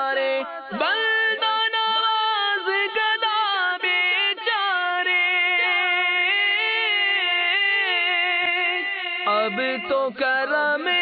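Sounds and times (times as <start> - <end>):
man singing a cappella: 0.0 - 11.0.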